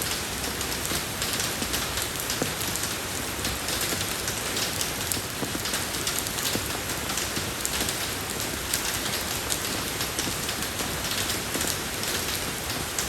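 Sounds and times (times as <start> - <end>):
rain falling on a road: 0.0 - 13.0.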